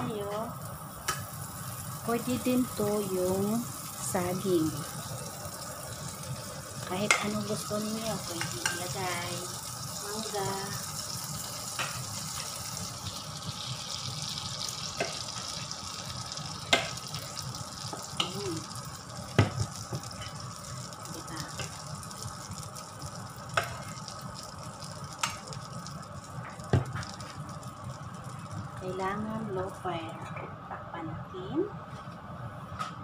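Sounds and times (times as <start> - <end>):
butter sizzling in a pan: 0.0 - 29.8.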